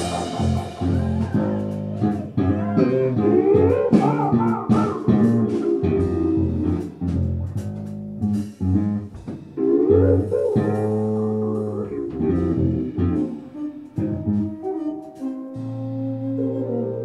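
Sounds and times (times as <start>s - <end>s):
bass guitar: 0.0s - 17.0s
drums: 0.0s - 17.0s
lead guitar bending notes: 0.0s - 17.0s.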